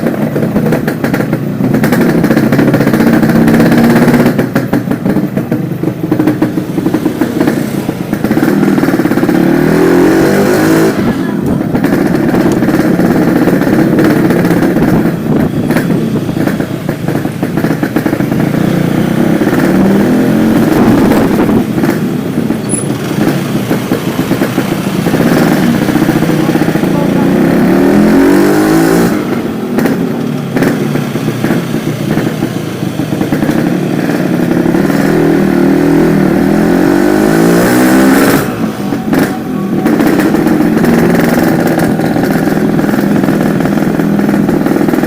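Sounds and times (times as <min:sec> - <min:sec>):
two-stroke motorcycle engine revving: 0:00.0 - 0:45.0.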